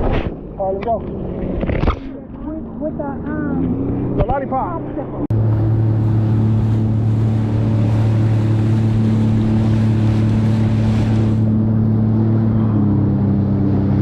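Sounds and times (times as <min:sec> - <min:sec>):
water rushing: 0:00.0 - 0:14.0
wind: 0:00.0 - 0:14.0
jet ski engine droning: 0:00.4 - 0:14.0.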